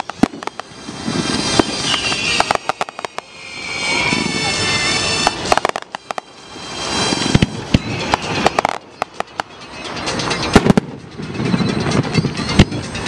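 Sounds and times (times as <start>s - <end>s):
firework shells bursting: 0.0s - 12.8s
crackling reports: 0.0s - 13.0s
rushing noise: 0.0s - 13.0s.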